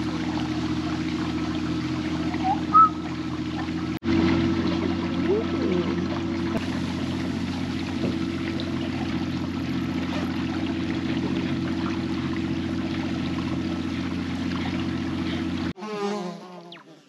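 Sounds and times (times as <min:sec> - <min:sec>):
boat engine running: 0:00.0 - 0:15.8
water rushing: 0:00.0 - 0:15.8.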